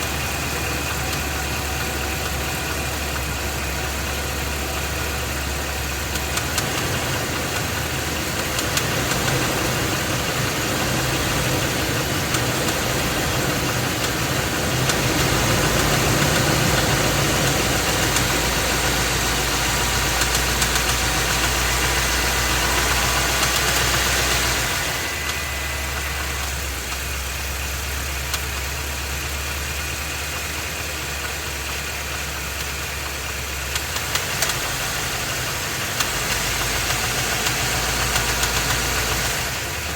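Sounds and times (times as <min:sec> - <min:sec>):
engine running with knocking: 0:00.0 - 0:39.9.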